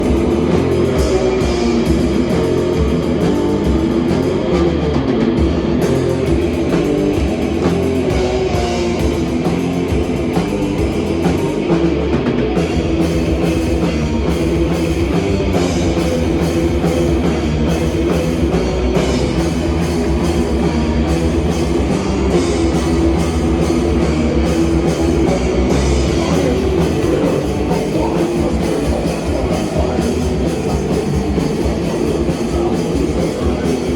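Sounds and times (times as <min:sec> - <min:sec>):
heavy rock band playing: 0:00.0 - 0:33.9.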